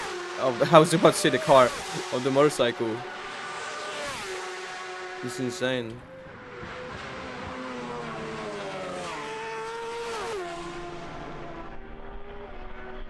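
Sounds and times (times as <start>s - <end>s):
racing motorcycle engine revving: 0.0s - 13.0s.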